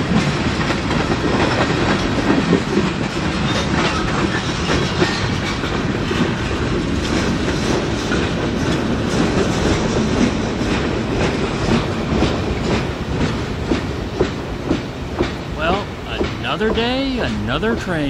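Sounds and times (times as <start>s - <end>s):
wheels clicking over rail joints: 0.0s - 16.8s
train wheels rumbling on rail: 0.0s - 18.0s.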